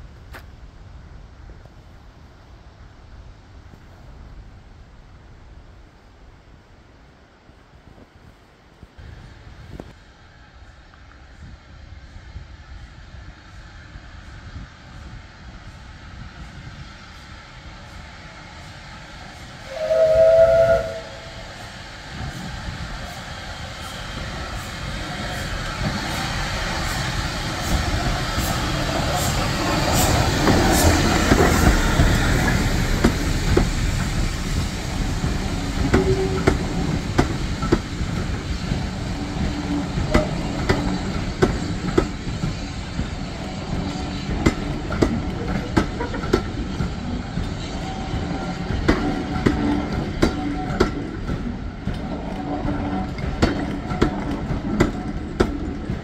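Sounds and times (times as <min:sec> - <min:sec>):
steam locomotive passing: 0:00.0 - 0:56.0.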